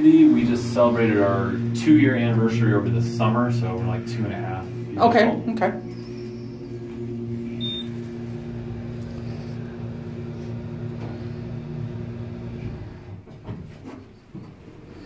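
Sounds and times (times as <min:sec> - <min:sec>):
low rumble: 0:00.0 - 0:13.1
mechanical hum with held tones: 0:00.0 - 0:15.0.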